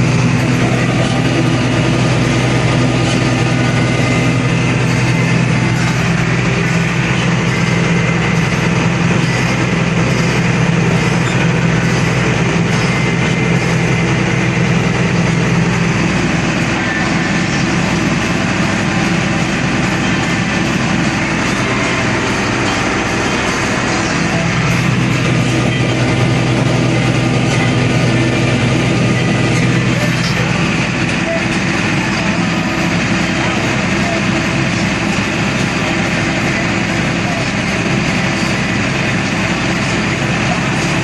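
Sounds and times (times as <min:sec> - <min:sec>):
dense mechanical clatter: 0:00.0 - 0:41.0
diesel harvest machinery running: 0:00.0 - 0:41.0.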